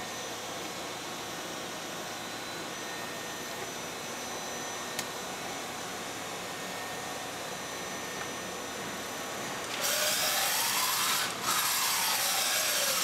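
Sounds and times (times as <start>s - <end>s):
machine hum and hiss: 0.0s - 13.0s.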